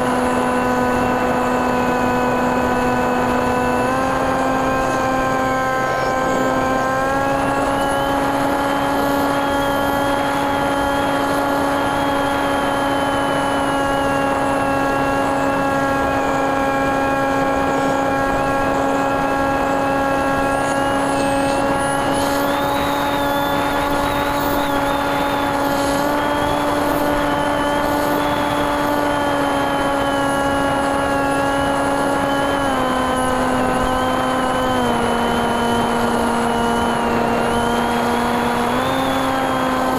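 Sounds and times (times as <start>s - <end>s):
propeller motor buzzing: 0.0s - 39.9s.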